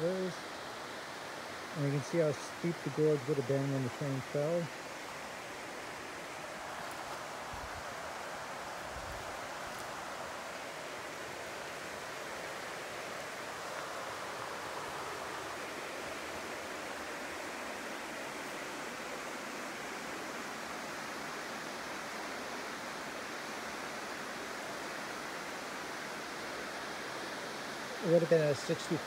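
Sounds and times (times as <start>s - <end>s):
river rushing over rapids: 0.0s - 29.0s.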